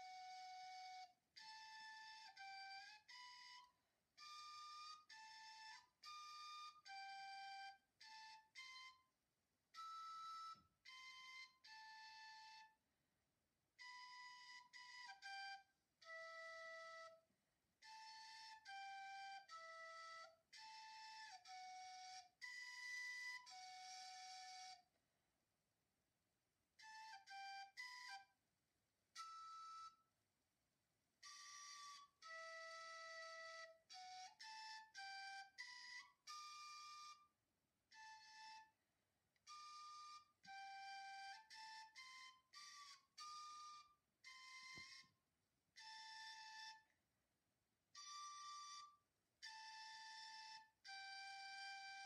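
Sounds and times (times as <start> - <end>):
solo flute melody: 0.0 - 12.8, 13.8 - 25.0, 26.8 - 28.4, 29.1 - 30.1, 31.2 - 47.0, 47.9 - 52.0.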